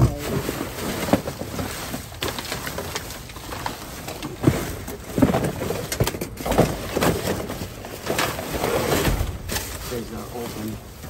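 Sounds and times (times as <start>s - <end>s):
plastic bags and cardboard rustling: 0.0s - 11.0s.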